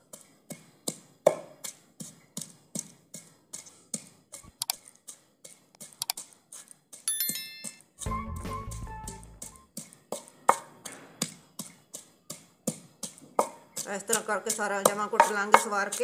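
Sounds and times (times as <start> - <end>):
wooden pestle pounding in bowl: 0.0 - 7.0, 8.1 - 16.0.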